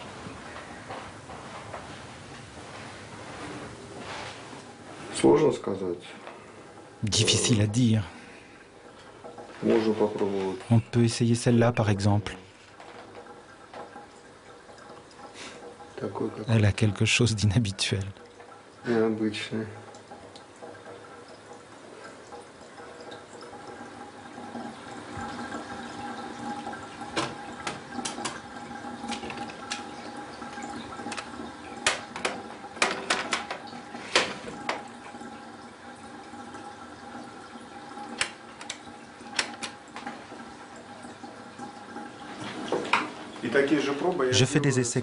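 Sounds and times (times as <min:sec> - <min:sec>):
water running from a tap: 0:04.5 - 0:45.0.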